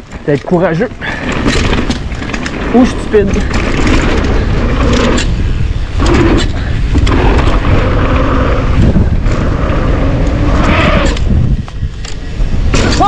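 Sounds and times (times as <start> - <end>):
bike knocks and rattles: 0.0 - 13.0
tyres rumbling over dirt: 0.0 - 13.0
wind buffeting microphone: 0.0 - 13.0.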